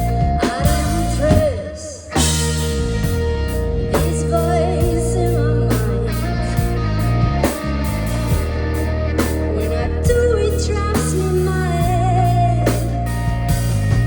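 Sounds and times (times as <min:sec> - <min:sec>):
live rock band: 0:00.0 - 0:14.0.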